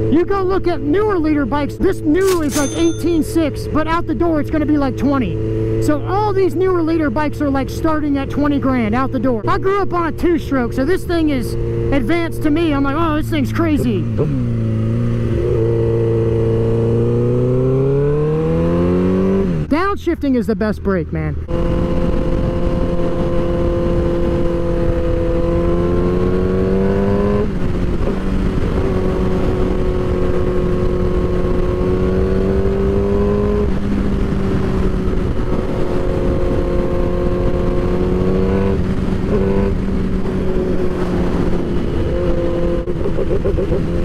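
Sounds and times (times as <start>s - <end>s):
motorcycle engine shifting gears: 0.0s - 19.8s, 21.4s - 44.0s.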